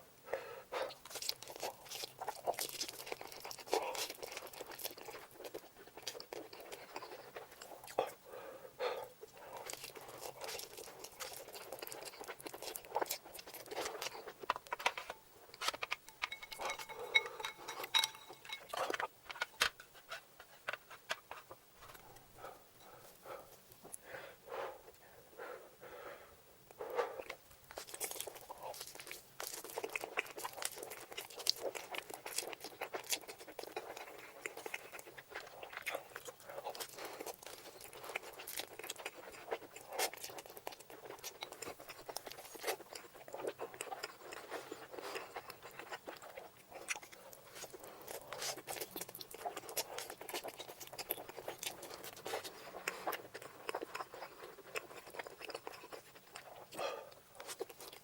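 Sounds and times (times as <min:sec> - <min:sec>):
person chewing noodles: 0:00.7 - 0:24.0, 0:26.7 - 0:58.0.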